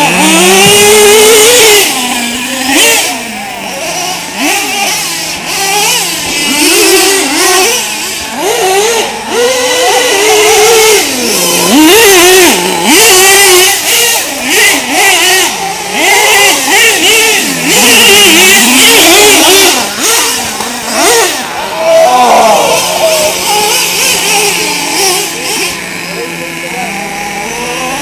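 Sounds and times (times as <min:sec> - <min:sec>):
rc nitro engines revving: 0:00.0 - 0:28.0.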